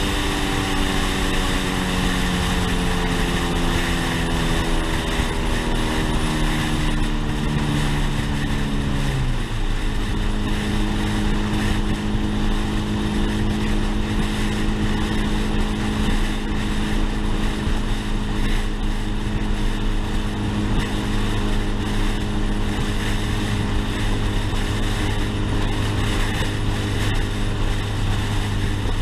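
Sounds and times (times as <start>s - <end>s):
car engine at constant speed: 0.0s - 29.0s
wind noise on microphone: 0.0s - 29.0s.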